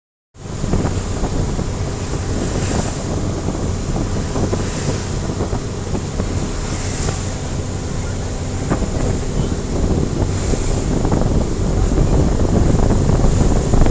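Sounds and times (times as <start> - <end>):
boat engine drone: 0.4 - 13.9
water splashing against hull: 0.4 - 13.9
wind buffeting microphone: 0.4 - 13.9.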